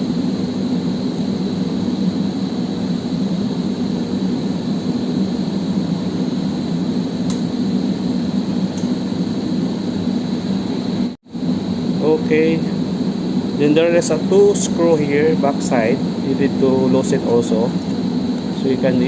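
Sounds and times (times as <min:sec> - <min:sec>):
fan droning: 0:00.0 - 0:19.0.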